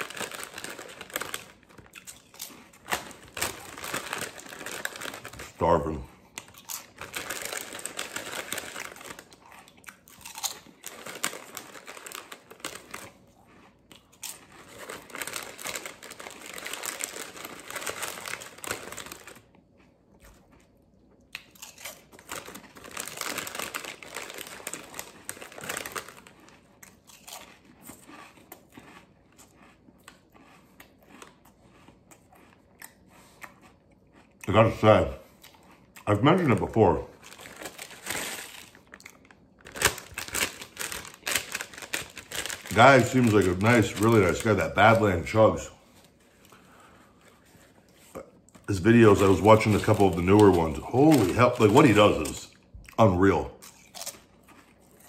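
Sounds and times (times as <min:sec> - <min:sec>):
crunchy chewing: 0:00.0 - 0:05.5, 0:06.2 - 0:36.1, 0:46.1 - 0:55.0
plastic snack bag crinkling: 0:00.0 - 0:19.6, 0:21.4 - 0:31.9, 0:34.4 - 0:55.0.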